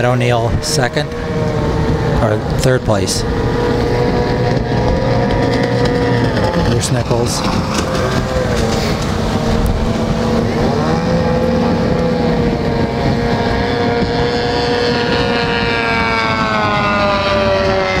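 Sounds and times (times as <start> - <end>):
racing outboard motors: 0.0 - 18.0.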